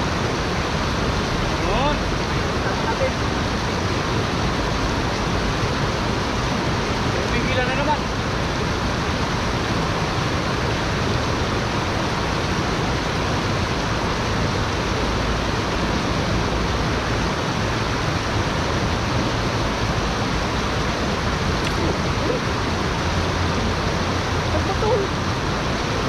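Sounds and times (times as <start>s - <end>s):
stream rushing over rapid: 0.0s - 26.0s.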